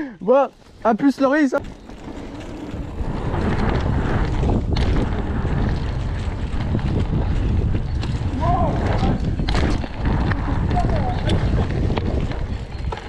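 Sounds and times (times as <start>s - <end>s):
bike knocks and rattles: 1.6s - 13.0s
tyre rumble: 1.6s - 13.0s
wind on microphone: 2.5s - 13.0s.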